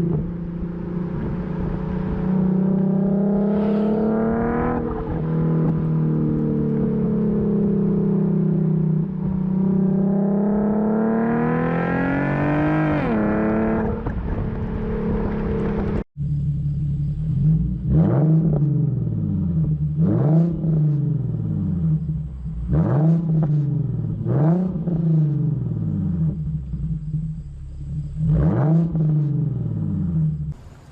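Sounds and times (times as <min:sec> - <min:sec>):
car engine revving: 0:00.0 - 0:30.6.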